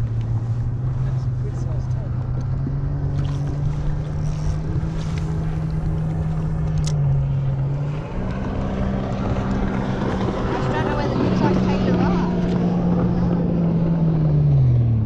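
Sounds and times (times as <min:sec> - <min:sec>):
engine drone: 0:00.0 - 0:15.0
wind rumbling on microphone: 0:00.0 - 0:15.0.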